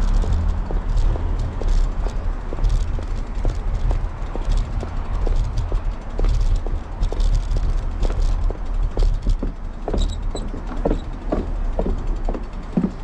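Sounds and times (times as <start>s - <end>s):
shoe cleats clacking on pavement: 0.0s - 13.0s
wind rumble on microphone: 0.0s - 13.0s.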